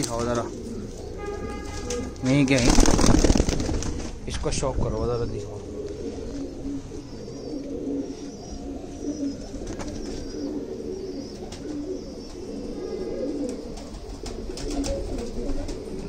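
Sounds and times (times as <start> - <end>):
pigeons cooing: 0.0 - 4.2, 4.9 - 16.0.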